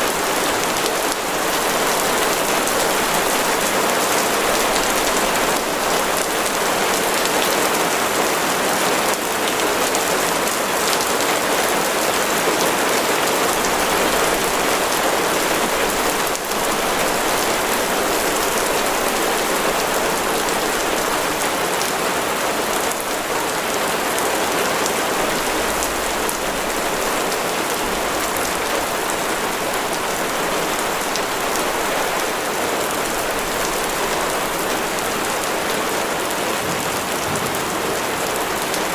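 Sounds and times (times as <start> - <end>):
heavy rain pattering: 0.0 - 38.9.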